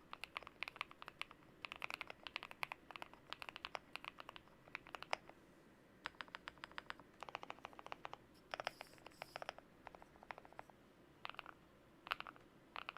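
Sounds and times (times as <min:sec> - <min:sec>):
mechanical keyboard typing: 0:00.0 - 0:05.3, 0:06.0 - 0:12.9.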